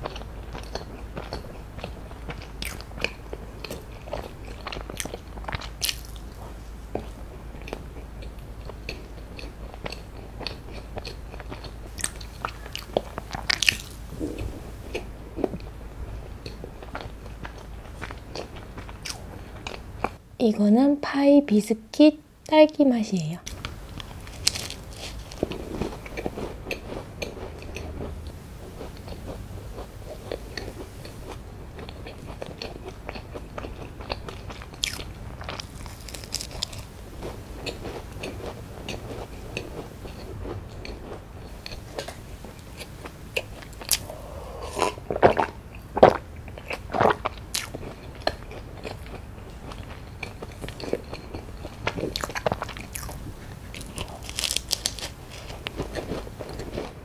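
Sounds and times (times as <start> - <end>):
biscuit crunching while chewed: 0.0 - 20.2, 23.5 - 57.0.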